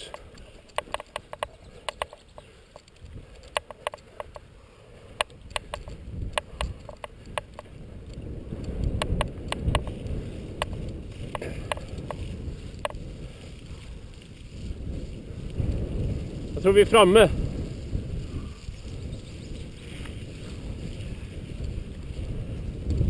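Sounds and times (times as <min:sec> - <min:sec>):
bike clicking and rattling: 0:00.0 - 0:23.0
bike tyres rumbling on grass: 0:00.0 - 0:23.0.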